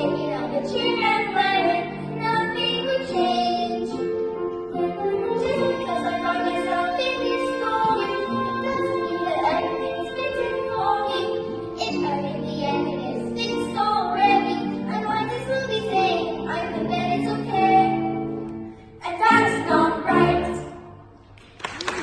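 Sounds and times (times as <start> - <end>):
children's ensemble singing: 0.0 - 4.0, 4.7 - 18.0, 19.0 - 20.8
musical accompaniment: 0.0 - 22.0.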